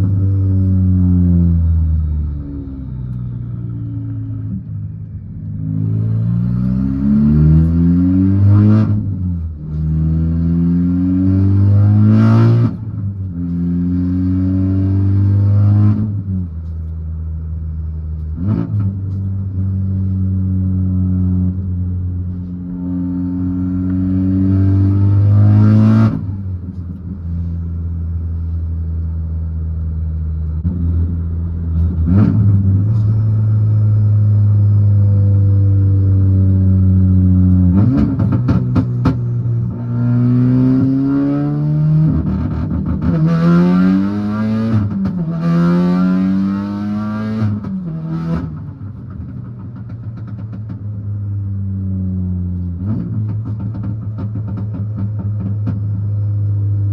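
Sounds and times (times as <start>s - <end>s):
turbo car engine accelerating: 0.0s - 56.9s.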